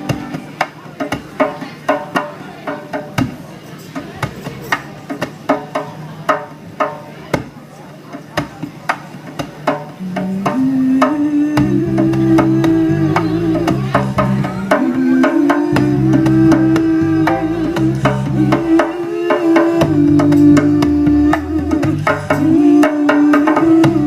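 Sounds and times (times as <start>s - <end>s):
drum beat: 0.0s - 7.6s, 8.2s - 24.0s
live band groove: 0.0s - 24.0s.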